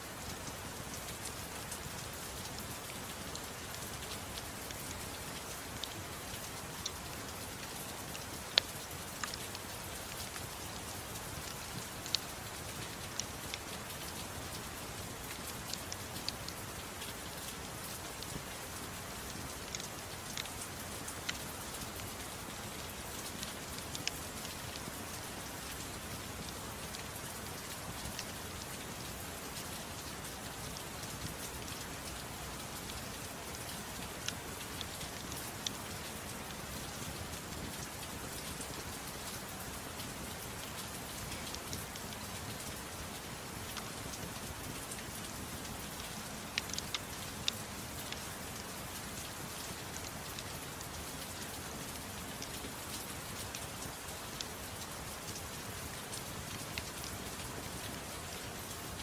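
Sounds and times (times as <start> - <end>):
soft rain hissing: 0.0 - 59.0.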